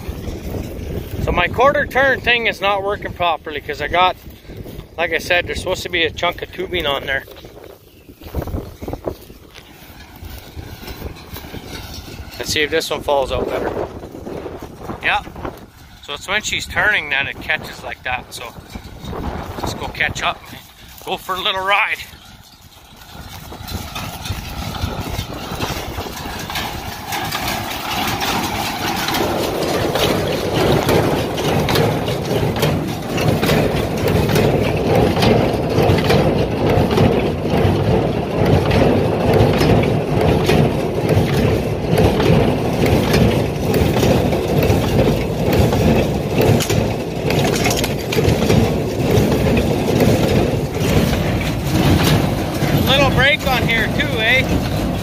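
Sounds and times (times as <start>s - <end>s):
square baler running: 0.0s - 55.0s
tractor engine: 0.0s - 55.0s.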